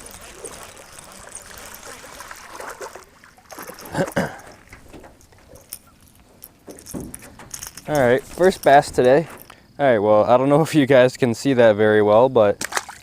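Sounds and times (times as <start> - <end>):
water splashing and trickling: 0.0 - 10.3, 12.6 - 13.0.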